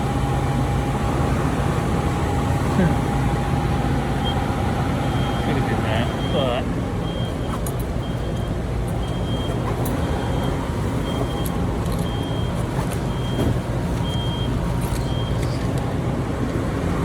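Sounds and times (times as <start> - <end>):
low machinery drone: 0.0 - 17.0.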